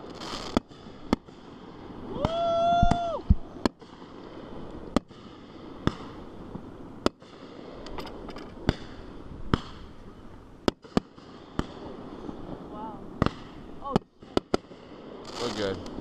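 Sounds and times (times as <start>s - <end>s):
fireworks bangs: 0.0s - 10.0s, 10.6s - 16.0s.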